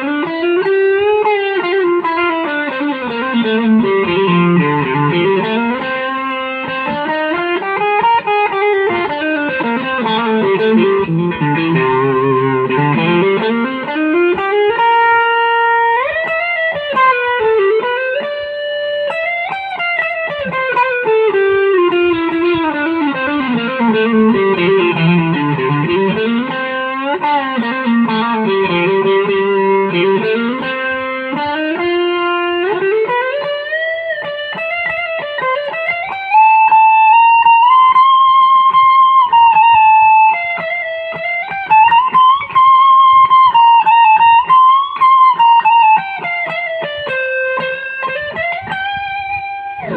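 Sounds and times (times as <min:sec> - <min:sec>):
electric guitar solo: 0:00.0 - 0:49.9.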